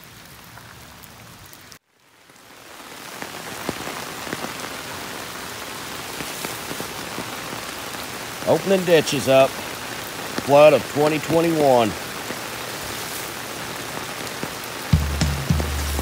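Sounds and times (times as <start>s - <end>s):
raindrops hitting a surface: 0.0s - 16.0s
steady rain falling: 0.0s - 16.0s.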